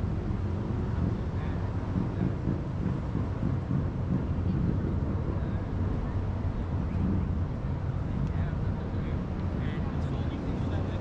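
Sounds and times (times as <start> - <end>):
distant ocean waves breaking: 0.0 - 11.0
wind on microphone: 0.0 - 11.0.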